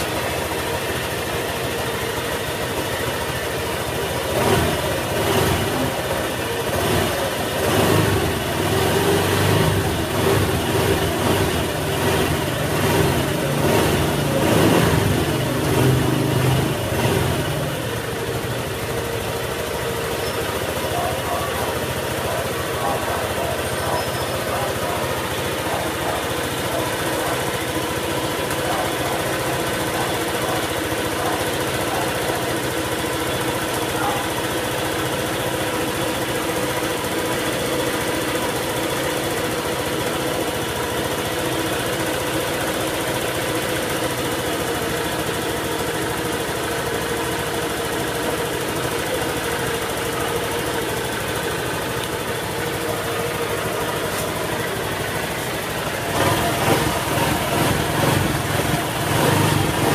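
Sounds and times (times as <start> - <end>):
scooter engine idling: 0.0 - 59.9.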